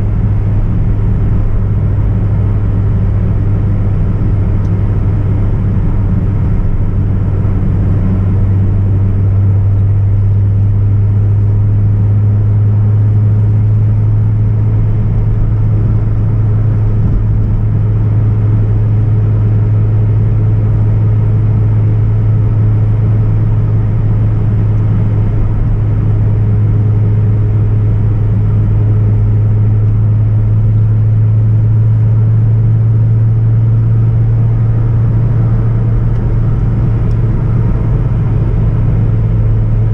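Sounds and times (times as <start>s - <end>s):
car engine and exhaust droning: 0.0s - 39.9s
road noise: 0.0s - 39.9s.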